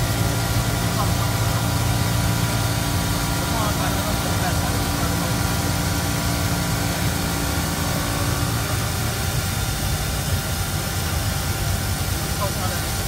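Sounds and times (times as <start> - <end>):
steady low hum: 0.0 - 13.0
stone cutting machine drone: 0.0 - 13.0.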